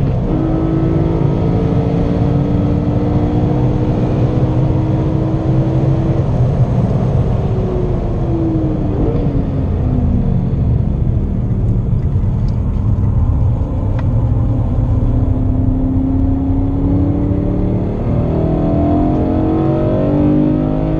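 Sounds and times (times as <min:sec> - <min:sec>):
car engine and tyre rumble: 0:00.0 - 0:20.9.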